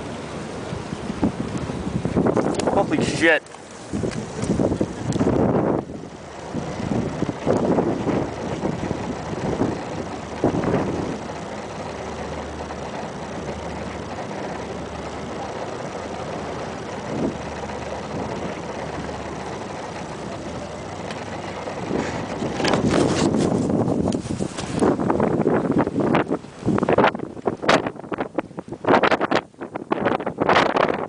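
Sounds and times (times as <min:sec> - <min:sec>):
sandstorm wind roaring: 0:00.0 - 0:31.0.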